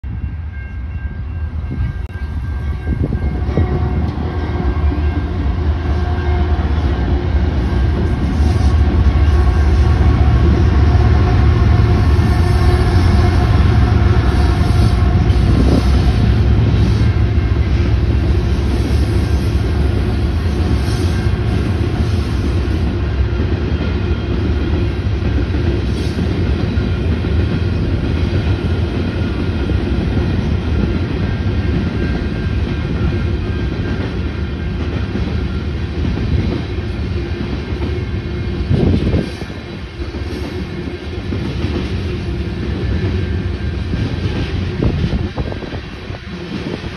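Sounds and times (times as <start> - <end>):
diesel locomotive engine rumble: 0.0 - 46.9.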